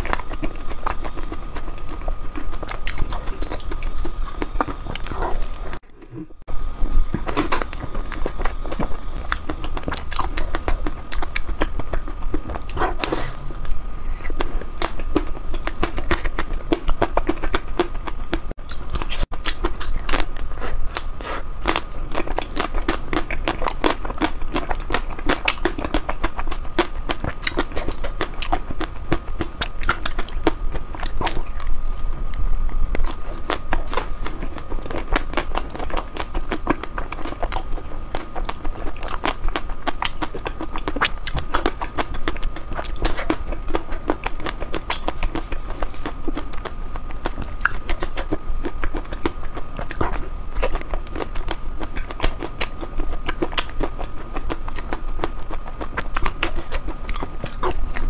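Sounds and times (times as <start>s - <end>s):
person chewing ice cream: 0.0s - 58.0s.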